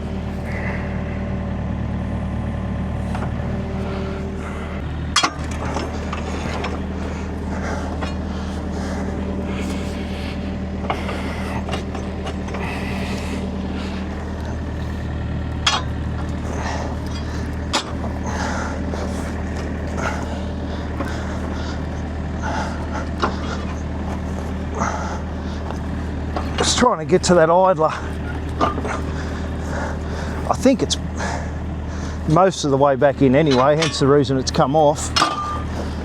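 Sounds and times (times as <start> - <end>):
excavator diesel engine idling: 0.0 - 36.0.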